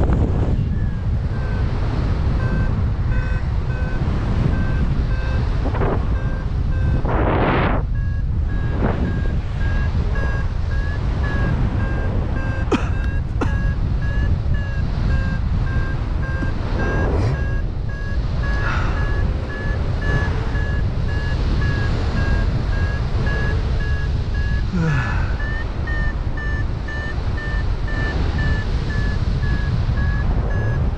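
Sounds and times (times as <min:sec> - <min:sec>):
variometer beeping: 0:00.0 - 0:30.9
wind rumbling on microphone: 0:00.0 - 0:30.9.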